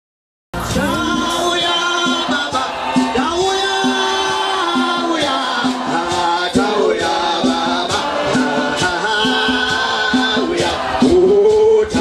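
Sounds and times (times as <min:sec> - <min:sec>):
congregation singing: 0:00.6 - 0:12.0
steady percussive beat: 0:00.6 - 0:12.0.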